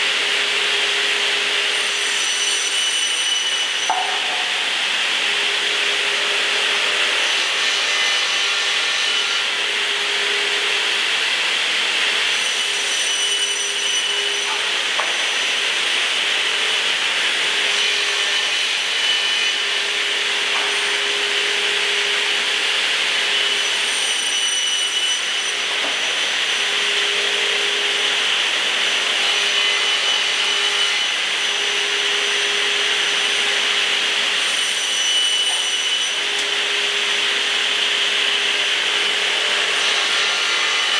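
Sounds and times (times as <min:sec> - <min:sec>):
saw machine cutting lumber: 0:00.0 - 0:40.9.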